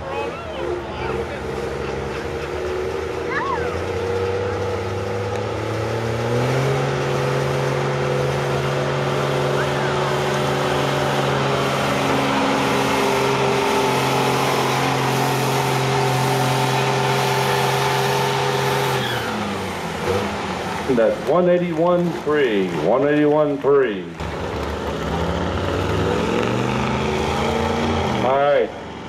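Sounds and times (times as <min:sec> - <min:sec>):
diesel engine under full load: 0:00.0 - 0:29.0.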